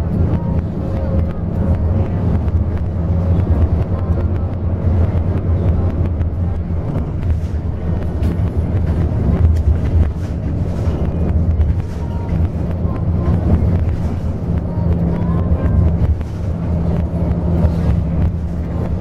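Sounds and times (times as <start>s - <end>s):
bus body rattling and clicking: 0.0s - 19.0s
bus engine and tyres rumbling: 0.0s - 19.0s.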